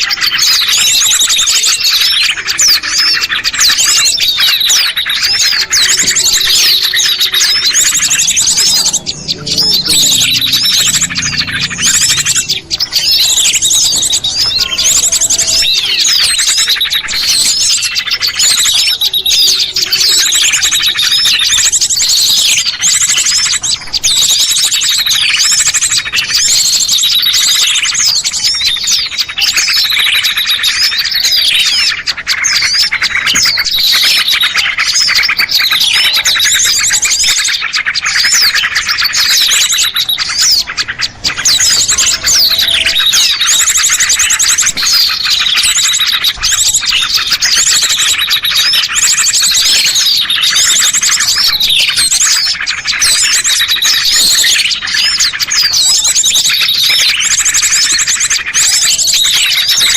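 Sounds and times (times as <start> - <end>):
many small birds chirping: 0.0 - 59.9.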